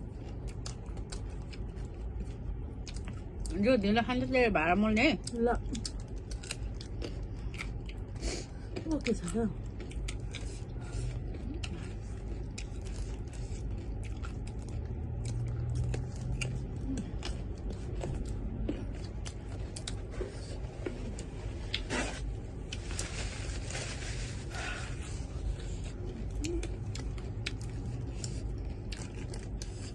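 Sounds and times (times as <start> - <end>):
chewing close to microphone: 0.0 - 3.6, 5.2 - 29.9.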